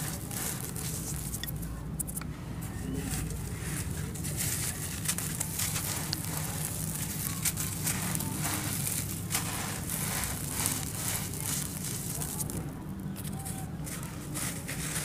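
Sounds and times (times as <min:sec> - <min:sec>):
sand-cement lumps crumbling in hands: 0:00.0 - 0:01.6, 0:02.9 - 0:15.0.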